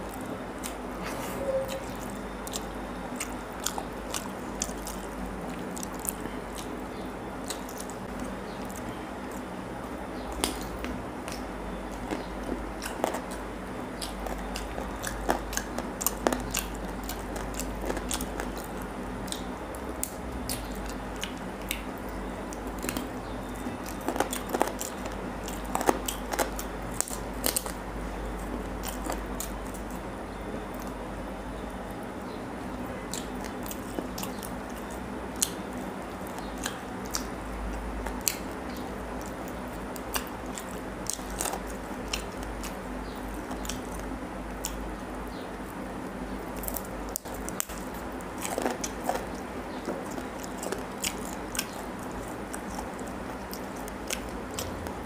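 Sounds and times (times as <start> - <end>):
person chewing and biting meat: 0.0 - 9.6, 10.2 - 31.0, 33.0 - 45.0, 45.6 - 55.0
steady low hum: 0.0 - 55.0.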